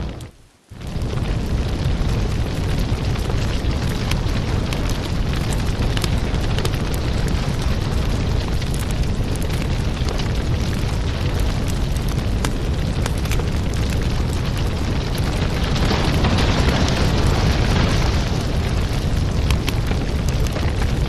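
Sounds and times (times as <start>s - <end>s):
firewood burning with crackles: 0.0s - 21.0s.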